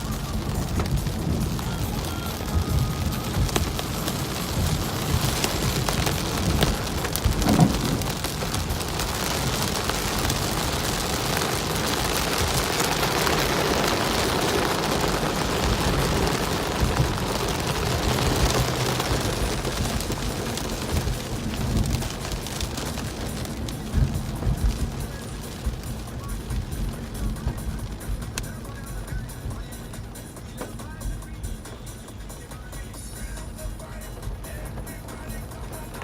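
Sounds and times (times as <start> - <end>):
low rumble: 0.0 - 30.2
heavy rain on car windshield: 0.0 - 36.0.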